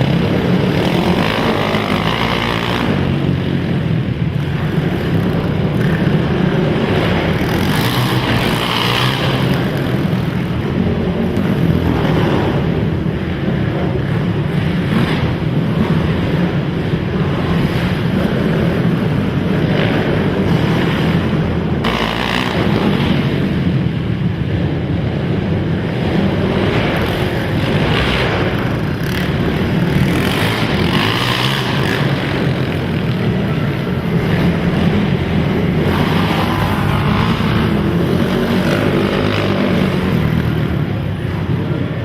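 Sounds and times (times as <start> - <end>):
quad engines revving: 0.0 - 42.0.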